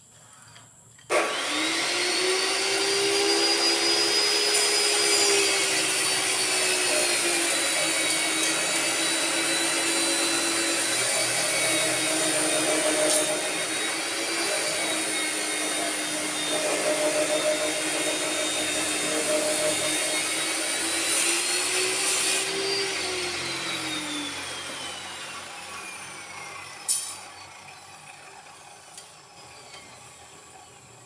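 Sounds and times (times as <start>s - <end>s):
power tool whining: 0.4s - 31.0s.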